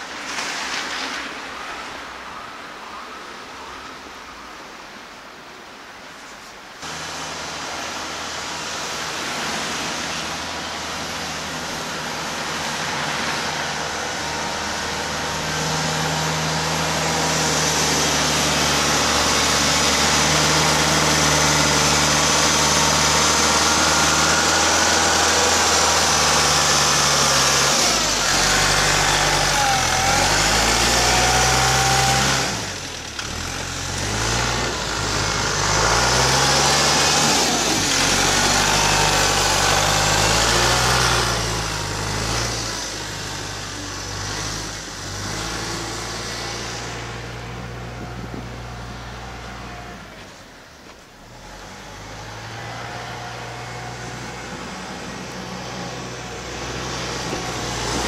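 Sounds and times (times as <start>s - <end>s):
small tractor engine running: 10.2s - 50.3s, 51.4s - 58.0s.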